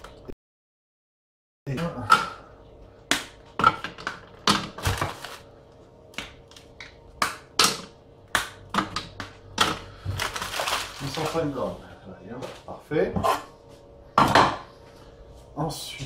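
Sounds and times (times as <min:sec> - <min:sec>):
faint steady hum: 0:01.7 - 0:16.0.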